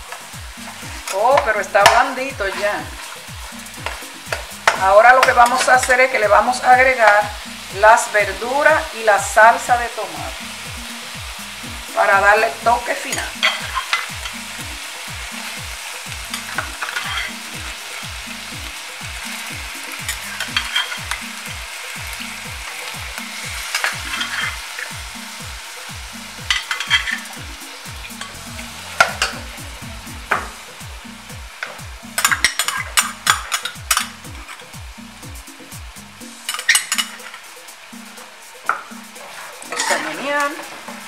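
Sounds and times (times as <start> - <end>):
meat sizzling in a pot: 0.0 - 41.0.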